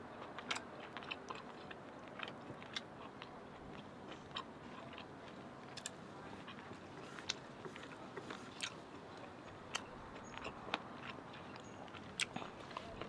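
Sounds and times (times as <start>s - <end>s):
person chewing food: 0.2s - 13.0s.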